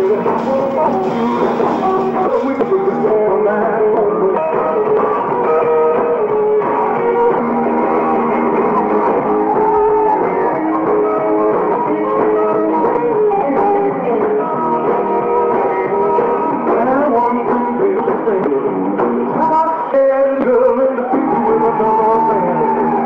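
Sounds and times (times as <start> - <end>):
electric guitar: 0.0 - 23.0
live rock band playing: 0.0 - 23.0.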